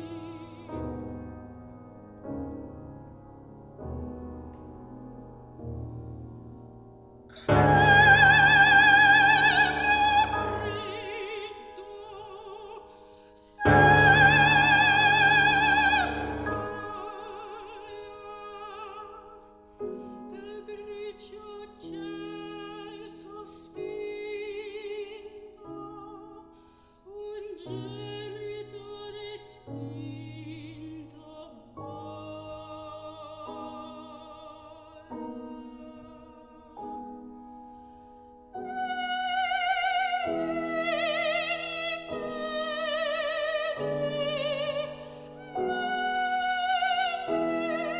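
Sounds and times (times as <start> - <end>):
soprano singing: 0.0 - 3.1, 3.7 - 6.2, 7.3 - 37.6, 38.4 - 47.9
piano accompaniment: 0.0 - 47.9.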